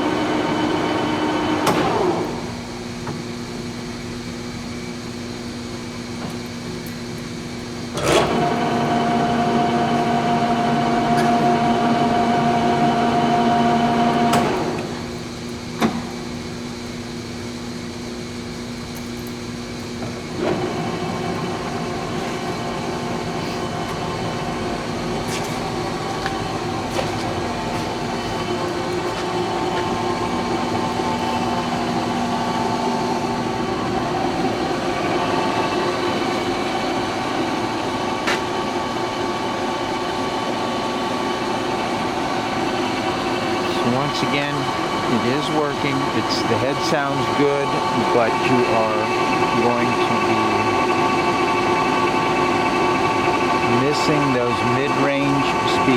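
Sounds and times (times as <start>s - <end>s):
lathe gear whine: 0.0s - 55.9s.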